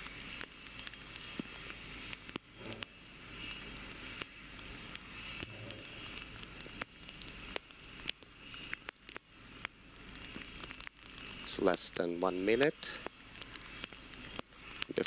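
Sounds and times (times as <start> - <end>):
sharp clicks and crackles: 0.0 - 15.0
steady hiss: 0.0 - 15.0.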